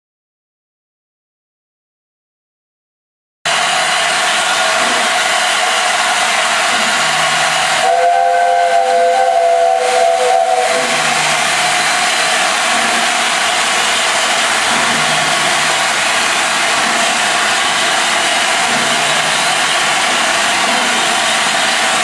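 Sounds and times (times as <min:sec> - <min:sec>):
steam locomotive hissing steam: 0:03.5 - 0:22.0.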